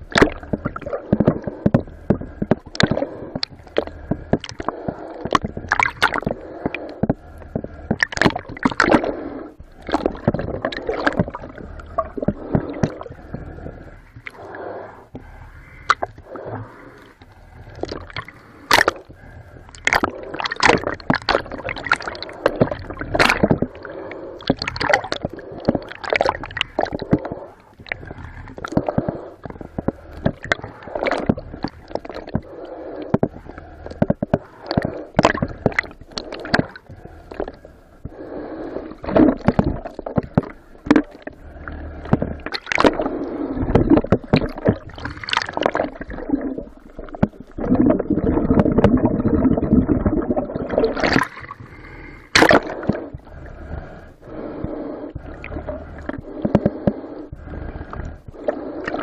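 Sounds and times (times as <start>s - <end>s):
water splashing and sloshing: 0.0s - 59.0s.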